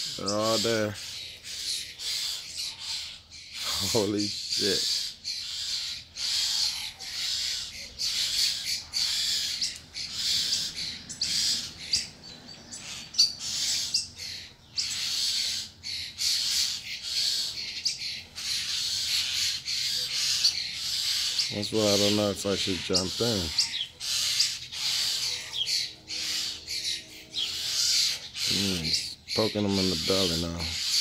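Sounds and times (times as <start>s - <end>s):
birds chattering harshly: 0.0s - 31.0s.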